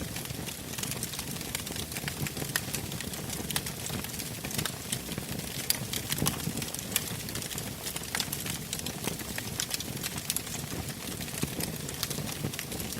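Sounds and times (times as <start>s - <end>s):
rush of flames: 0.0s - 12.9s
wood crackling and popping: 0.0s - 12.9s.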